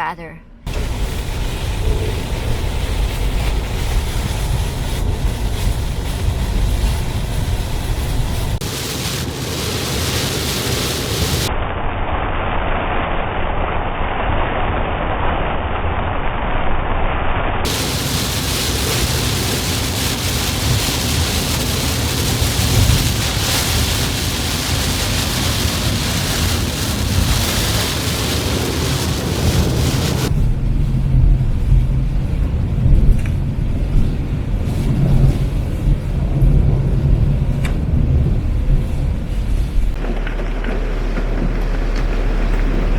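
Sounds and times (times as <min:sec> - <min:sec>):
rushing wind and rain: 0:00.7 - 0:11.6, 0:17.6 - 0:42.9.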